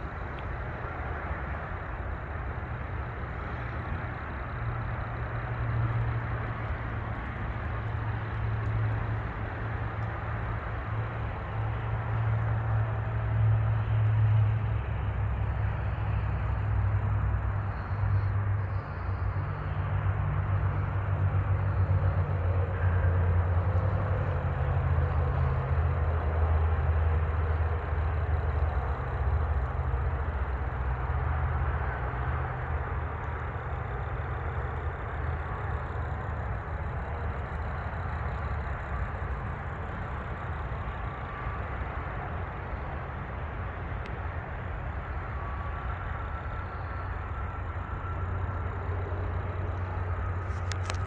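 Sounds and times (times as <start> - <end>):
low rumble of motor traffic: 0.0 - 51.0.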